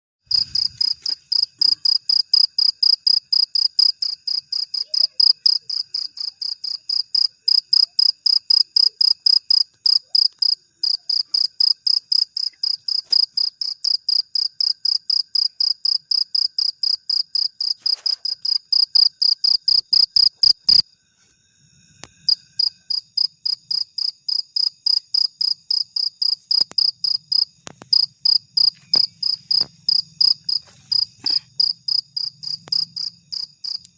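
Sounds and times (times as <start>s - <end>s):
cricket chirping high-pitched: 0.3s - 33.9s.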